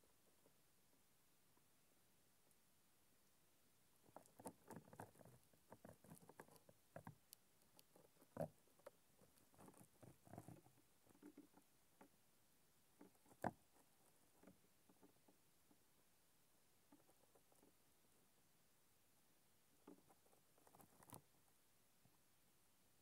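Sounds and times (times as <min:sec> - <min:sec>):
faint small clicks and rustles: 0:02.4 - 0:22.3.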